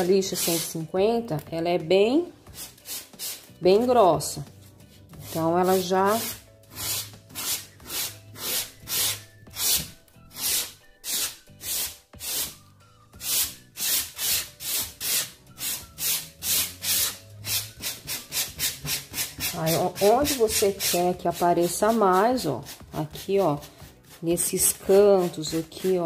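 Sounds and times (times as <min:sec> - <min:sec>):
sandpaper rubbing on painted board: 0:00.0 - 0:00.8, 0:05.2 - 0:12.6, 0:13.2 - 0:26.0.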